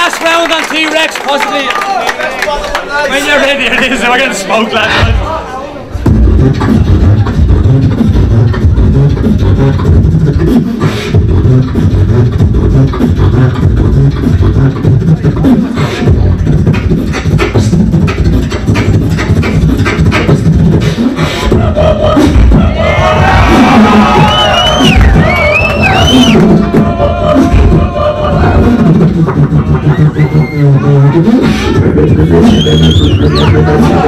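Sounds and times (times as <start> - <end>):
beatboxing into a microphone: 6.0 - 34.0.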